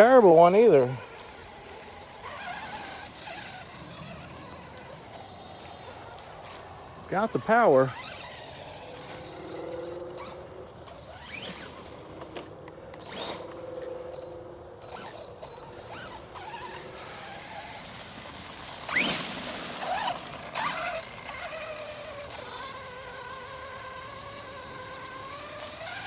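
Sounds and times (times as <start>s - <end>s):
rc truck motor whining: 0.0s - 26.0s.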